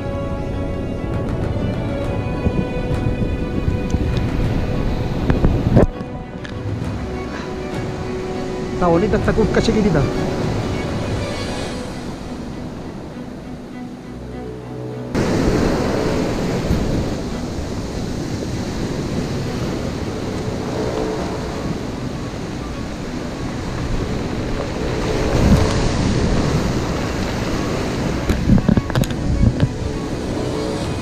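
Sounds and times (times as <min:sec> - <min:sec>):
wind buffeting microphone: 0:00.0 - 0:13.8, 0:15.1 - 0:31.0
ocean surf breaking: 0:00.0 - 0:31.0.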